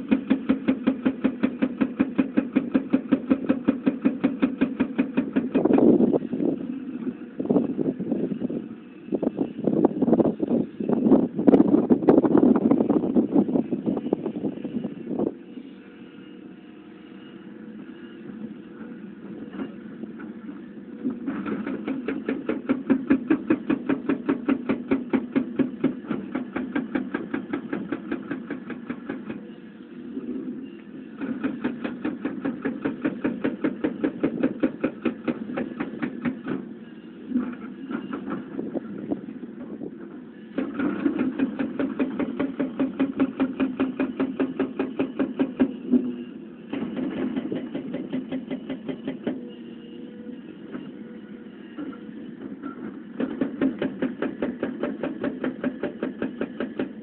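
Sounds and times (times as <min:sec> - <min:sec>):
excavator engine hum: 0:00.0 - 0:57.0.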